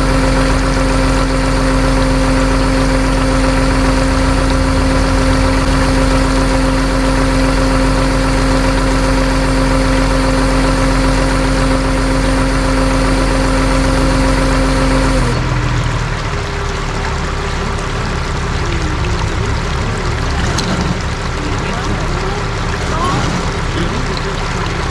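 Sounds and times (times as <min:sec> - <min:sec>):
vehicle engine humming: 0:00.0 - 0:24.9.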